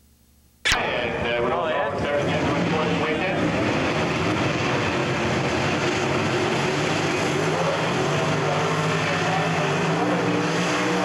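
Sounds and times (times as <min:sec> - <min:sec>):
drag car engine roaring: 0:00.7 - 0:11.0
tyres spinning on track: 0:00.7 - 0:11.0.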